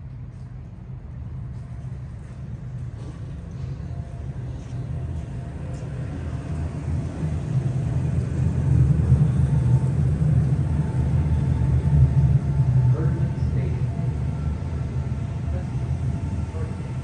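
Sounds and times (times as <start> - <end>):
large vehicle rumbling: 0.0 - 17.0.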